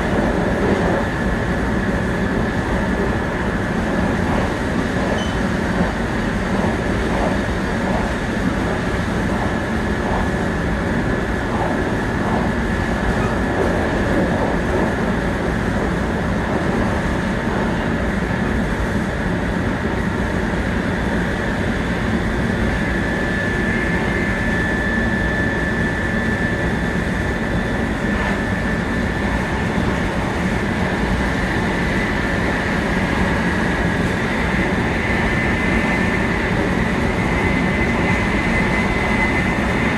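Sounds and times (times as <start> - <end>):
high train whine: 0.0 - 39.9
train wheels and air rumbling: 0.0 - 39.9.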